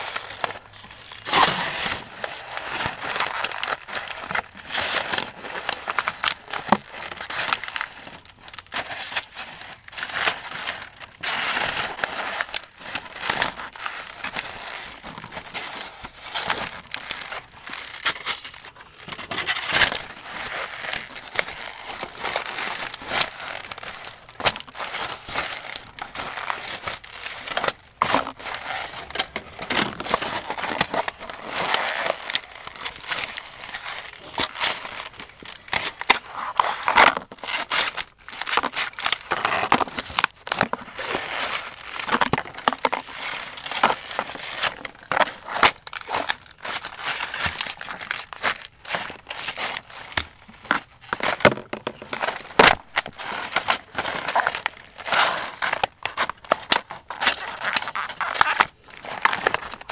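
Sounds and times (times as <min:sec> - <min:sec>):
boot crushing plastic and paper: 0:00.0 - 0:59.9
plastic cracking: 0:00.0 - 0:59.9.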